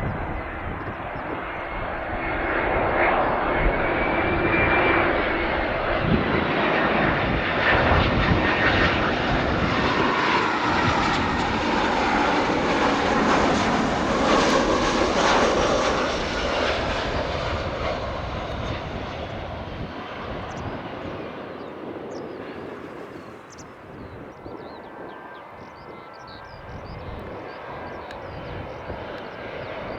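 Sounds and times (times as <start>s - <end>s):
jet airliner passing close: 0.0s - 29.9s.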